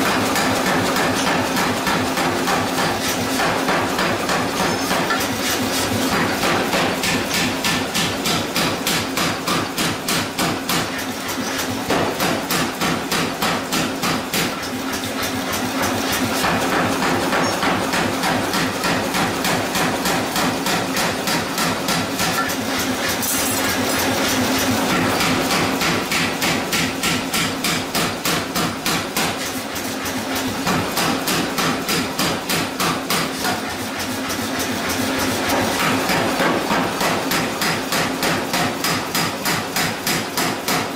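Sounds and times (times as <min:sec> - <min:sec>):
power hammer striking: 0:00.0 - 0:14.7, 0:15.8 - 0:29.4, 0:30.6 - 0:33.7, 0:35.5 - 0:40.9.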